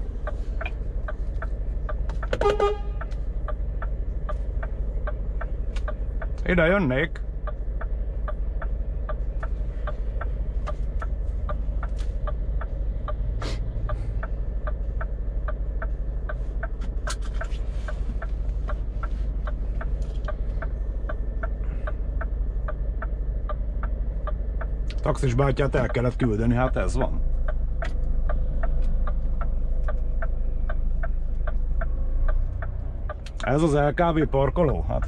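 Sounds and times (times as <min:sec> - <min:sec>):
flasher relay ticking: 0:00.0 - 0:17.1, 0:18.2 - 0:35.0
diesel engine running: 0:00.0 - 0:35.0.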